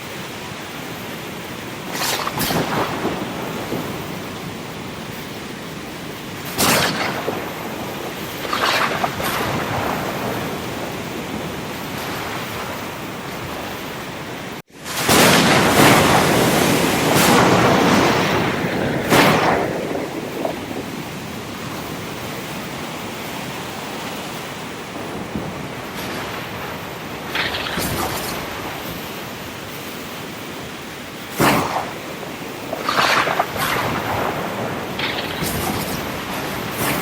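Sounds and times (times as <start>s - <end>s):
ocean waves washing: 0.0s - 37.0s
waves crashing: 0.0s - 37.0s.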